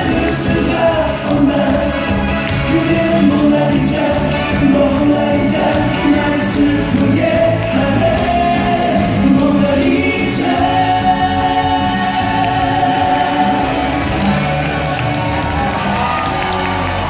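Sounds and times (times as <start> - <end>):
people singing: 0.0 - 14.8
live band playing: 0.0 - 17.0.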